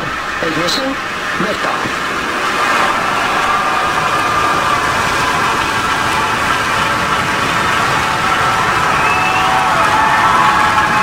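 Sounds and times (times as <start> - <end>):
rocket engines rumbling: 0.0 - 11.0.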